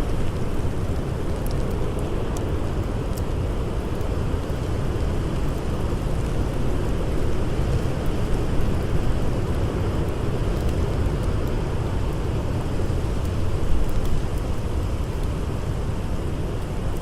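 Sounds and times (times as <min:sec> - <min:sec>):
blizzard wind: 0:00.0 - 0:17.0
wood fire crackling: 0:00.0 - 0:17.0.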